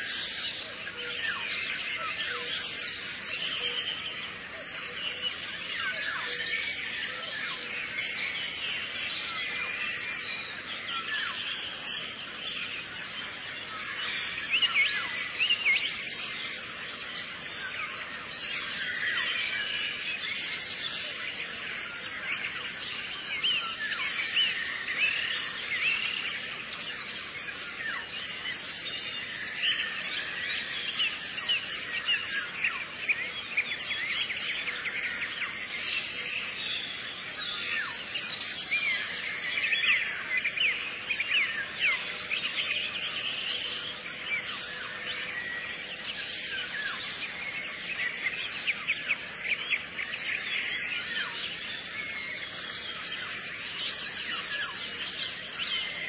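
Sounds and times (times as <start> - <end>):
chorus of small birds chirping: 0.0 - 56.0.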